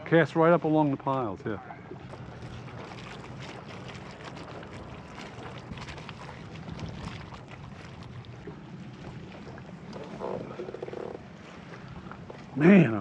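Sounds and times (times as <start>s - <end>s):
water lapping against plastic hull: 0.0s - 13.0s
wind on microphone: 1.6s - 12.3s.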